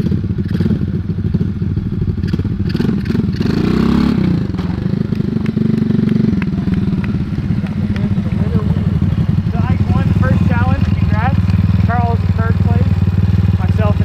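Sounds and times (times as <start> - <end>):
mini bike engine puttering: 0.0 - 14.0.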